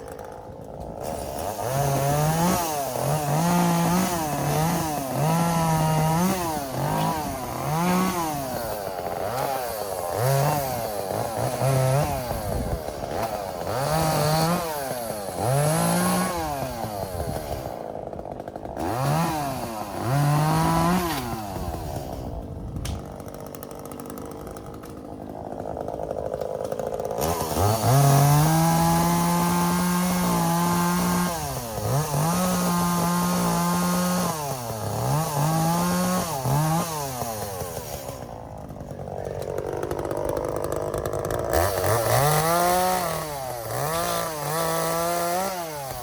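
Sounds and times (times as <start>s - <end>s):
chainsaw revving: 0.0s - 46.0s.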